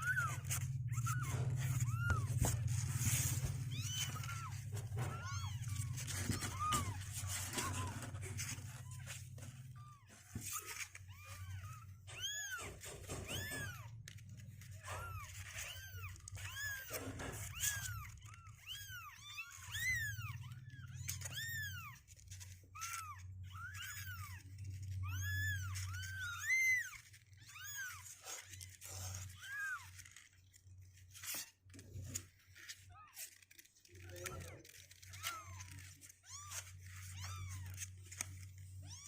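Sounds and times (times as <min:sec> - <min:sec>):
kittens mewing: 0:00.0 - 0:39.0.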